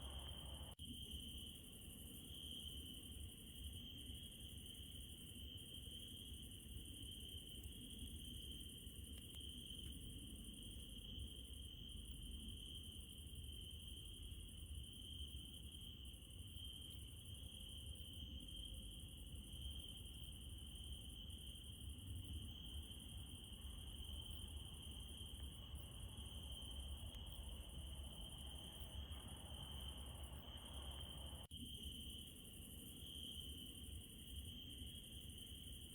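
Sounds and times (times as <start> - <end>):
crickets trilling: 0.0 - 35.9.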